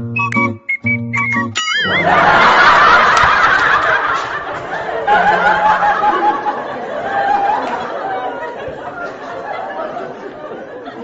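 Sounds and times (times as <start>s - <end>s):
crowd laughing: 1.6s - 11.0s.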